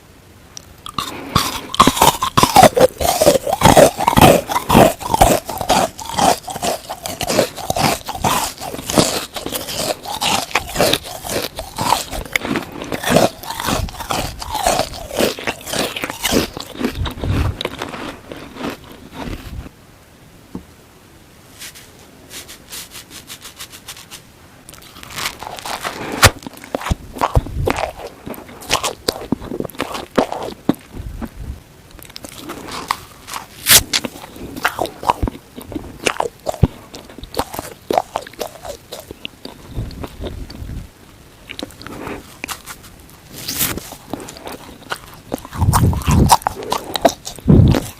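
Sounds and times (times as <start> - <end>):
crunchy chewing close up: 0.6 - 19.7, 21.6 - 40.8, 41.4 - 47.9.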